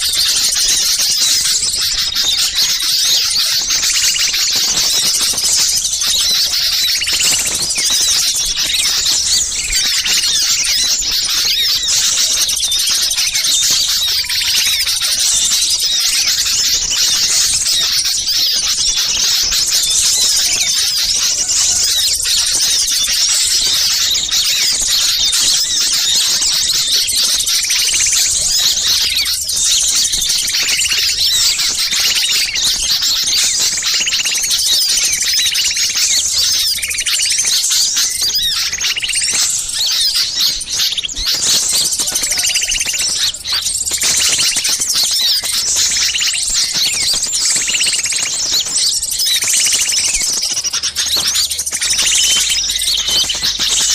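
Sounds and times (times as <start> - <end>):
small songbirds calling: 0.0 - 53.9.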